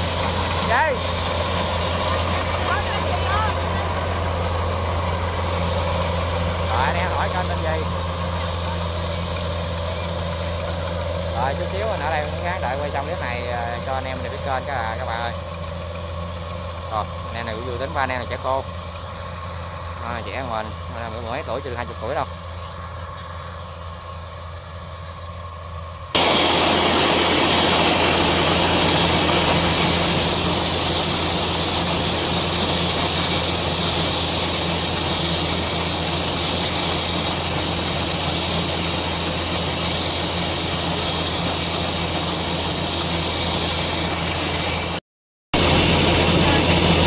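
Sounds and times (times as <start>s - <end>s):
wide even hiss: 0.0s - 22.5s, 26.2s - 45.0s
combine harvester engine drone: 0.0s - 45.0s, 45.6s - 47.0s.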